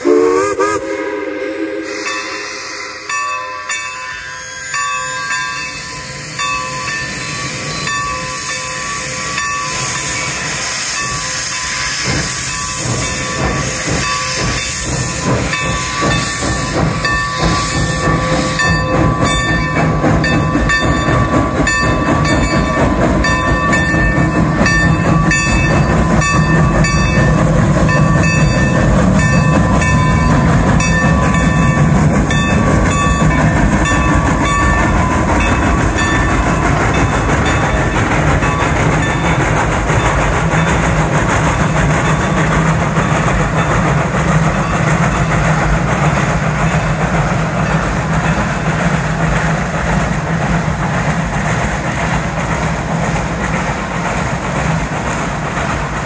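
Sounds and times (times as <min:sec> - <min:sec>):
coaches rumbling on rails: 0:00.0 - 0:56.0
steam hissing: 0:00.0 - 0:56.0
steam locomotive chuffing: 0:00.0 - 0:56.0.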